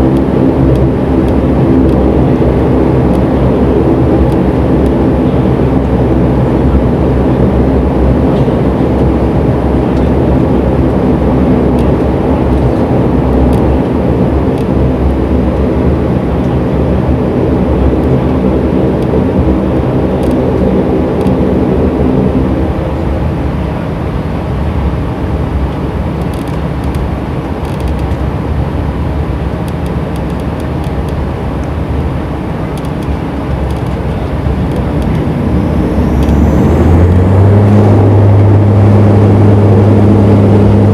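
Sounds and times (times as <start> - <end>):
turboprop engines droning: 0.0 - 40.9.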